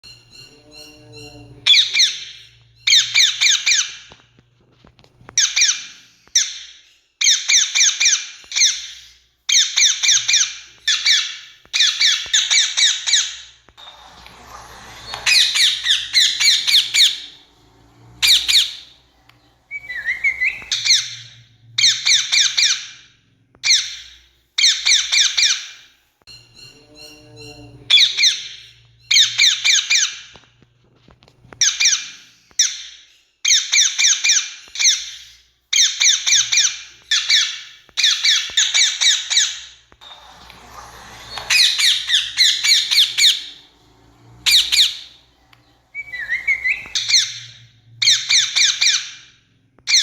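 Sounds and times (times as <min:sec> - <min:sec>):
parakeet screeching: 0:00.1 - 0:04.2, 0:05.4 - 0:25.8, 0:26.5 - 0:30.4, 0:35.8 - 0:50.0.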